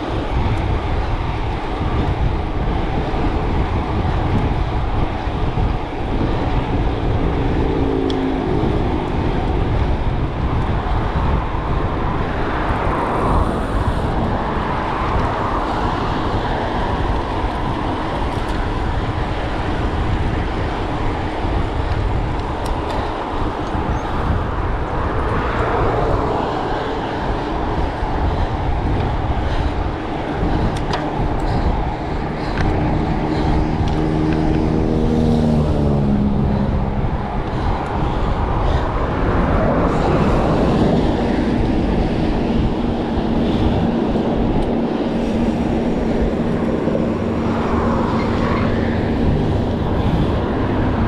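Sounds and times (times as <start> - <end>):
traffic passing: 0.0 - 51.0
vehicle engine hum: 0.0 - 51.0
wind buffeting camera: 0.0 - 51.0.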